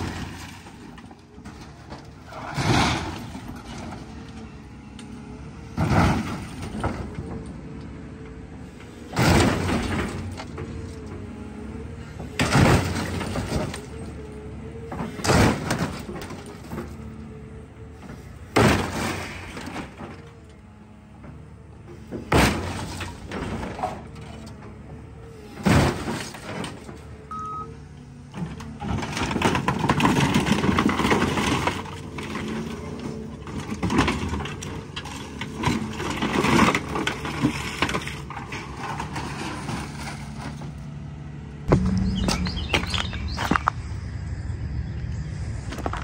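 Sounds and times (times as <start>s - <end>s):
excavator diesel engine hum: 0.0s - 46.0s.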